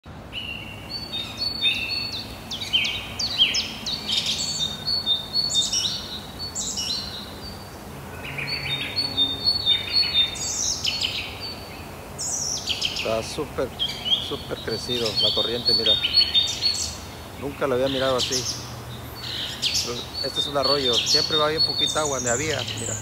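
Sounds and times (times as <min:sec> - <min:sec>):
small birds chirping: 0:00.0 - 0:23.0
creek rushing: 0:00.1 - 0:23.0.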